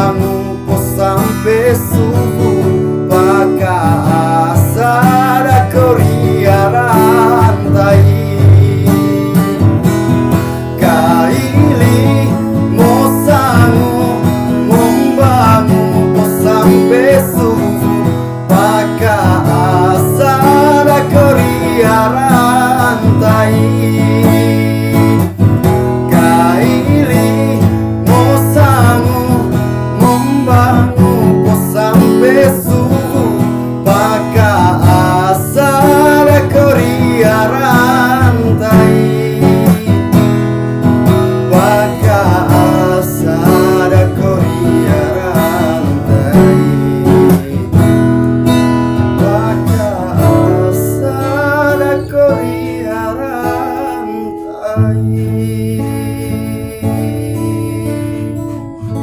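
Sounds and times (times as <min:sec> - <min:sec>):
man singing: 0:00.0 - 0:59.0
strummed acoustic guitar: 0:00.0 - 0:59.0.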